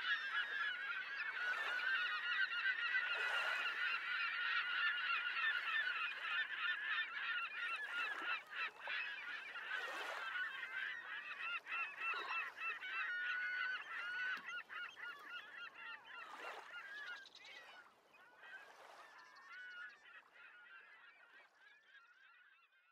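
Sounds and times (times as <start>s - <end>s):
flock of birds calling: 0.0s - 22.7s.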